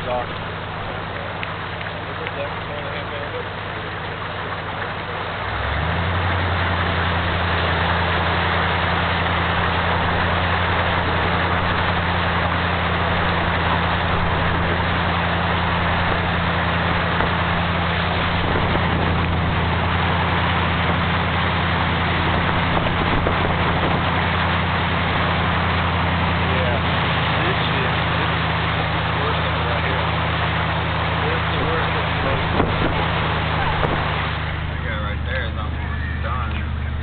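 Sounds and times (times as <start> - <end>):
constant hiss: 0.0 - 37.0
vehicle engine running: 0.0 - 37.0.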